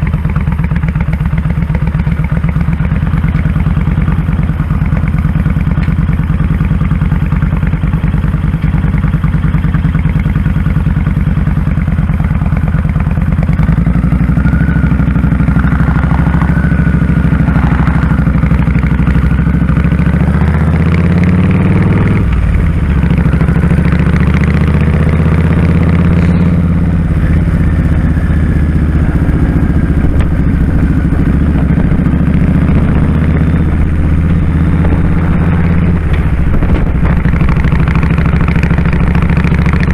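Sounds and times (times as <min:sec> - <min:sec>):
motorcycle engine throbbing: 0:00.0 - 0:39.9.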